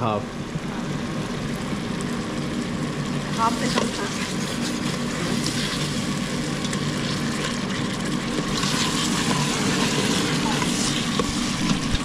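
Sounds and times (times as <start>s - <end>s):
sauce sizzling in a pot: 0.3s - 12.0s.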